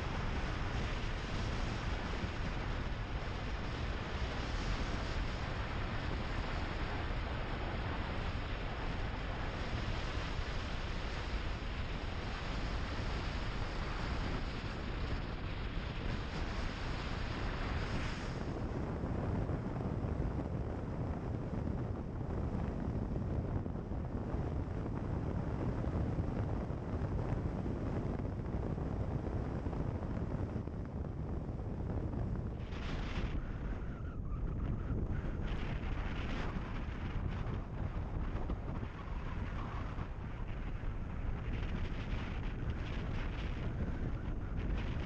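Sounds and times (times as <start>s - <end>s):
wind rush on microphone: 0.0s - 45.0s.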